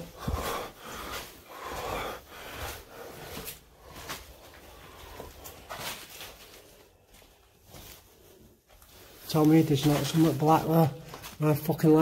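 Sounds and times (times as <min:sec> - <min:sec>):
people moving quietly: 0:00.0 - 0:12.0.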